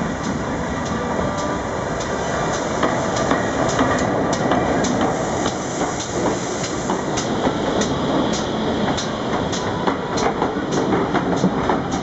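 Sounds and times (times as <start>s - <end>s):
steam locomotive rolling past: 0.0s - 12.0s.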